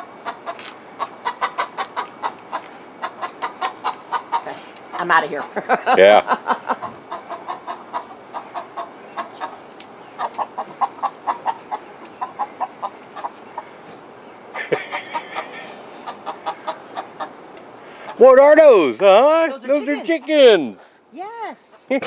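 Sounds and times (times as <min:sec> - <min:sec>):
chickens clucking: 0:00.0 - 0:20.8.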